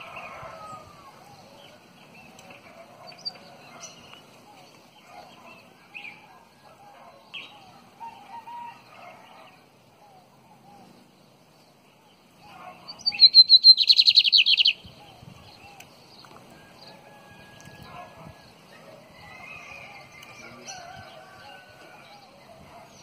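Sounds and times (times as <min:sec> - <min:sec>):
bird song with rapid trill: 0:00.0 - 0:23.0
faint chirps of other birds: 0:00.0 - 0:23.0.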